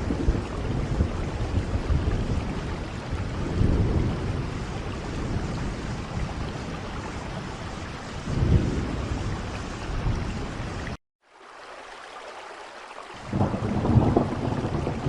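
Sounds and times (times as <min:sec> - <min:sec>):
low rumbles of thunder: 0:00.0 - 0:10.9, 0:13.2 - 0:15.0
steady rain: 0:00.0 - 0:15.0.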